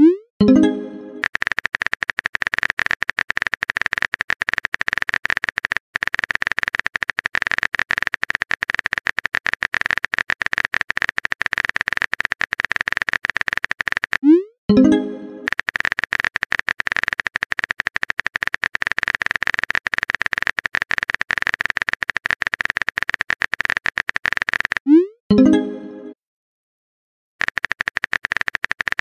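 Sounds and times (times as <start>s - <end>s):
keyboard typing clicks: 0.4s - 26.0s, 27.4s - 29.0s.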